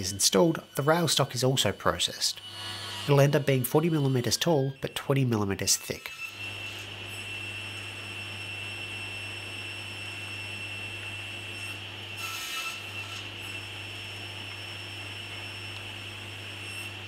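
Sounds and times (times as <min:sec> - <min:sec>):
saw cutting a board: 0:00.0 - 0:08.6, 0:09.2 - 0:14.2, 0:16.2 - 0:17.0
table saw running with whine: 0:00.0 - 0:17.0.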